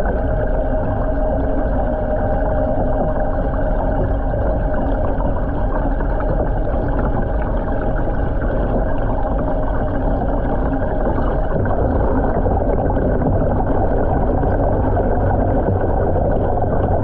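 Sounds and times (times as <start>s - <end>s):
churning water vortex: 0.0s - 17.0s
low hum: 0.0s - 17.0s.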